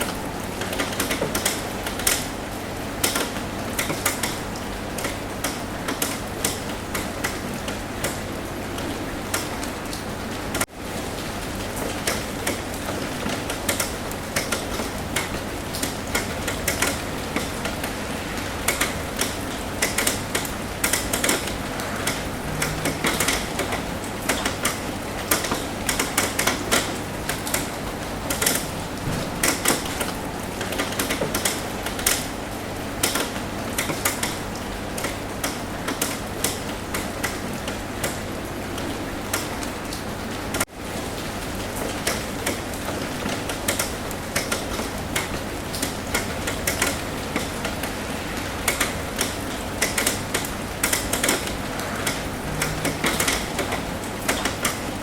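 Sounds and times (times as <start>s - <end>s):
raindrops tapping on a roof: 0.0s - 55.0s
rain hissing: 1.5s - 55.0s.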